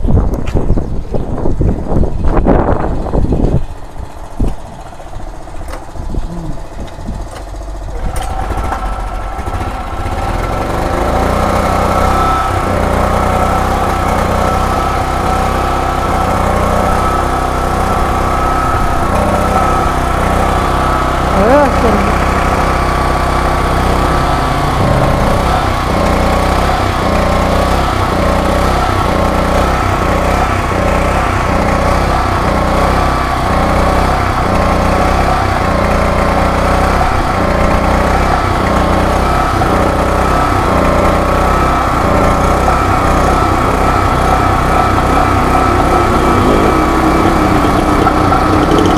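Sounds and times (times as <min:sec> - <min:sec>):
generator engine running: 0:00.0 - 0:48.9.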